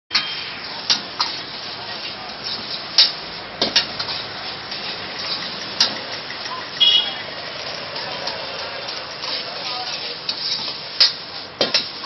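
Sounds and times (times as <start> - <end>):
food sizzling in a wok: 0.1 - 12.0.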